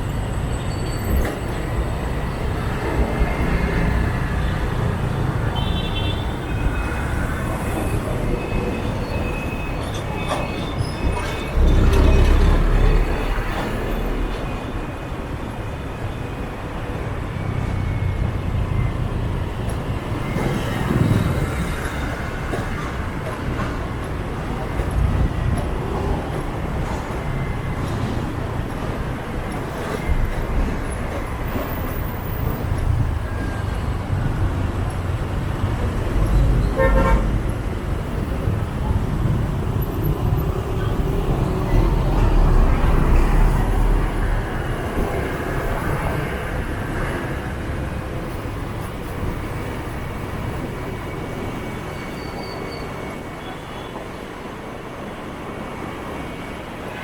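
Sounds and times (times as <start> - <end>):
scooter engine and road noise: 0.0 - 52.0.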